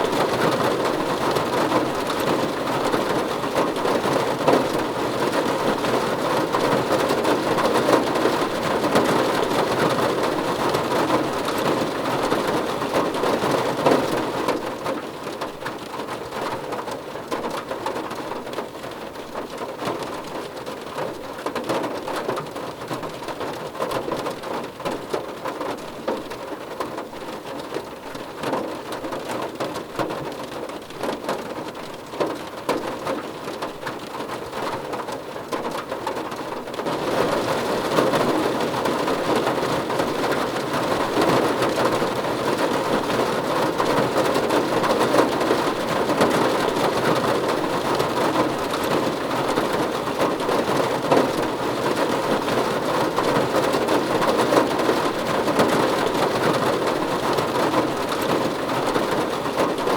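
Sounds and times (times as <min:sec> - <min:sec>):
rain drumming on a car roof: 0:00.0 - 0:59.9.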